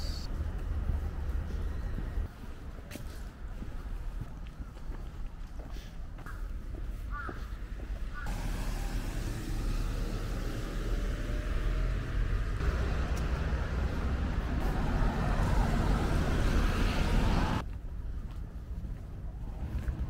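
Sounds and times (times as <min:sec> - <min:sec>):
road traffic rumbling: 0:00.0 - 0:04.2, 0:05.7 - 0:20.0.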